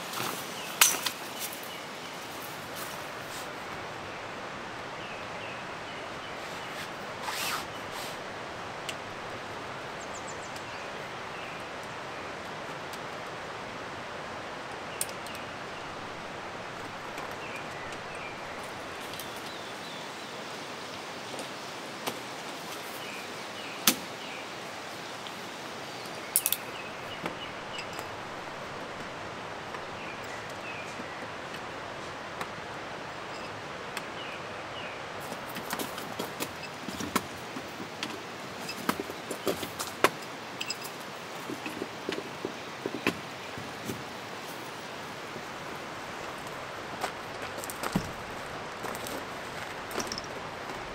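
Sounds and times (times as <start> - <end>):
stream rushing: 0.0 - 50.9.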